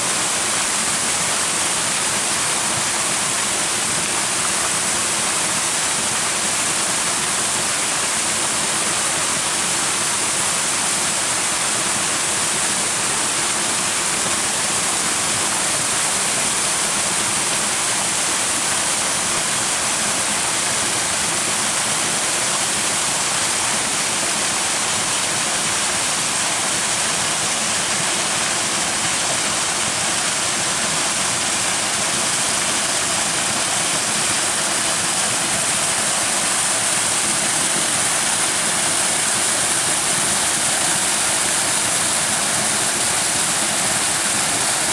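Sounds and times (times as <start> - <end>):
waterfall rushing over rocks: 0.0 - 44.9.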